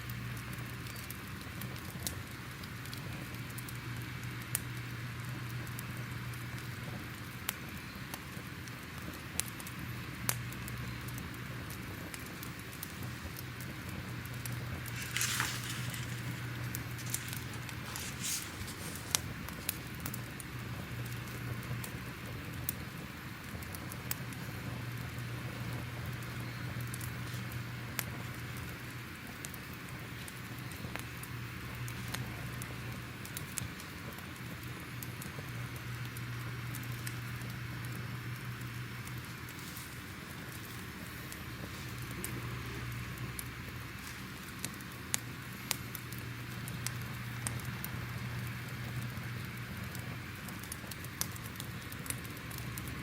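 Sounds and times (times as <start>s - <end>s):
fire crackling: 0.0s - 53.0s
fire hissing: 0.0s - 53.0s
low steady rumble: 9.3s - 53.0s.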